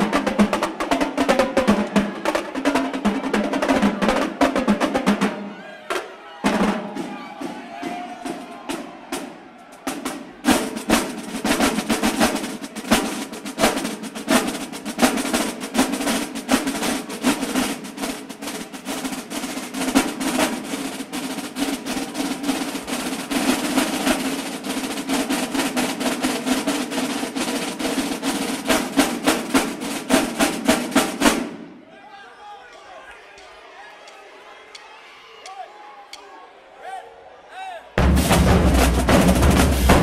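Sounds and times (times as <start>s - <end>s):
marching drumline playing: 0.0s - 31.8s, 38.0s - 40.0s.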